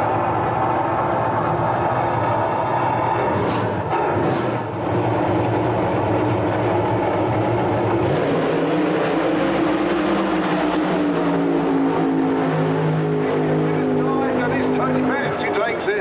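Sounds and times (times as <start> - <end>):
loud engine running: 0.0 - 16.0.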